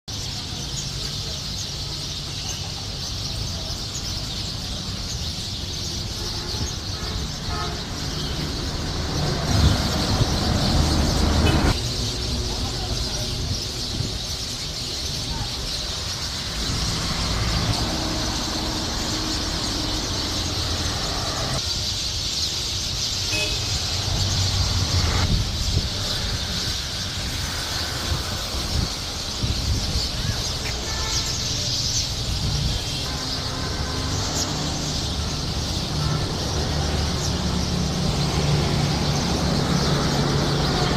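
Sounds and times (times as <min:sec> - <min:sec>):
small birds chirping chorus: 0:00.0 - 0:40.9
road traffic rumble: 0:00.1 - 0:40.9.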